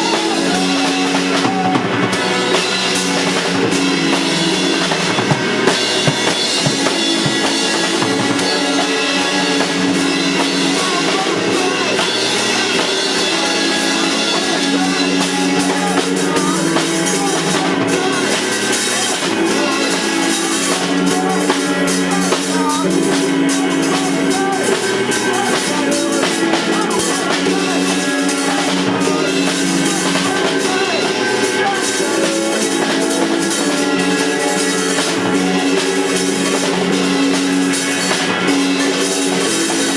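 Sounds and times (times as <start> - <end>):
drum kit: 0.0 - 39.9
live rock band playing: 0.0 - 39.9.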